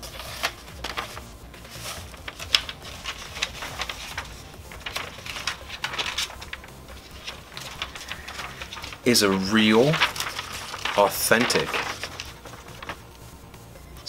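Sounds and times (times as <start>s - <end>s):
paper rustling and crinkling: 0.0s - 13.4s.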